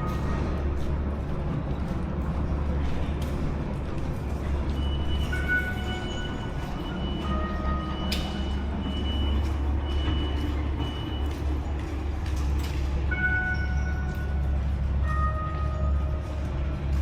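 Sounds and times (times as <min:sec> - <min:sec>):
large vehicle idling: 0:00.0 - 0:17.0.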